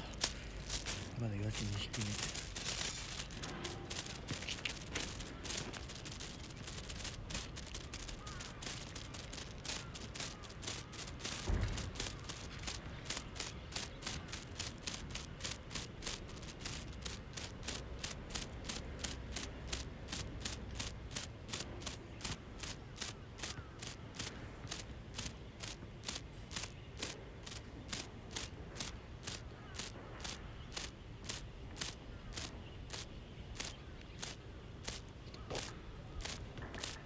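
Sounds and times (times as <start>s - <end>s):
fishing reel clicking: 0.0s - 37.0s.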